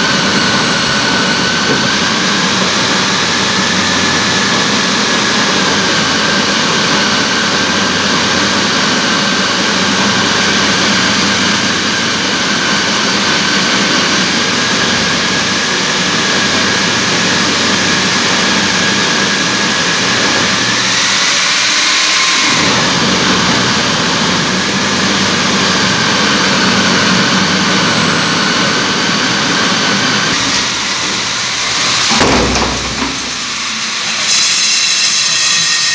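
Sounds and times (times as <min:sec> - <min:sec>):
core drill cutting concrete: 0:00.0 - 0:35.9
drill bit breaking through: 0:00.1 - 0:35.9.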